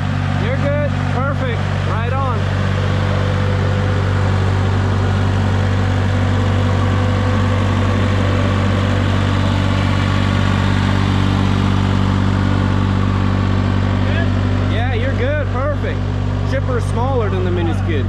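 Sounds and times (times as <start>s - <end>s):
skid steer engine running: 0.0s - 18.0s.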